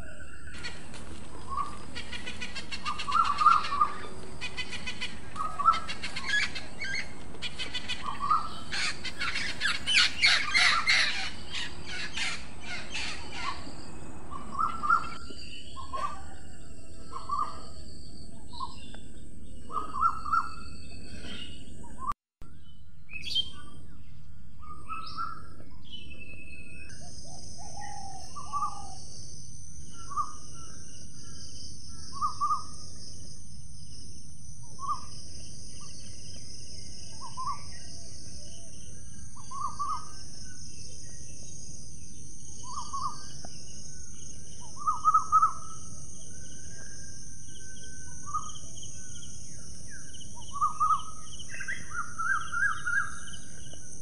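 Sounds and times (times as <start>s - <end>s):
bird calls: 0.0s - 54.0s.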